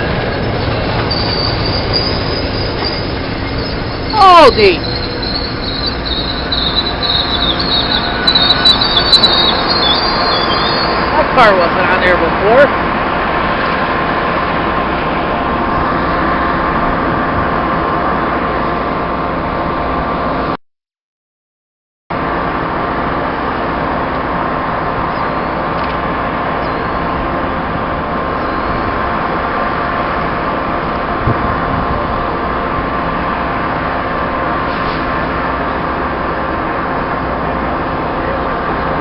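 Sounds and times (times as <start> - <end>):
idling diesel train drone: 0.0 - 20.6, 22.1 - 39.0.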